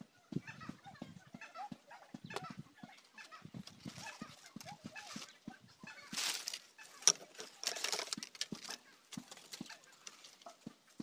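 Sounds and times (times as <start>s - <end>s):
sticks and brush rustling: 0.4s - 11.0s.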